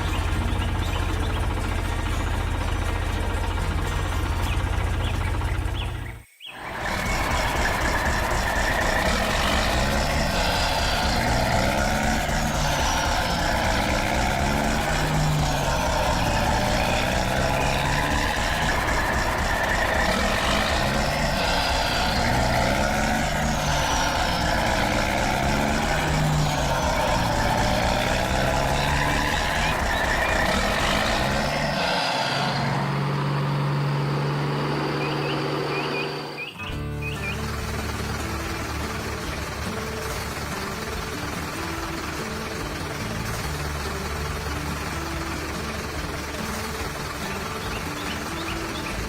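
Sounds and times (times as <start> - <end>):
heavy vehicle engine running: 0.0 - 49.0.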